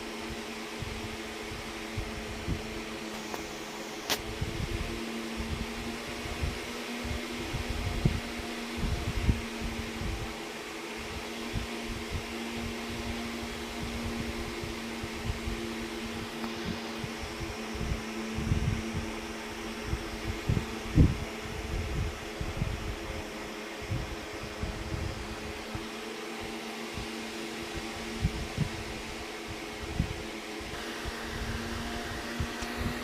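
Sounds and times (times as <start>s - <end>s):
fan motor hum: 0.0s - 33.0s.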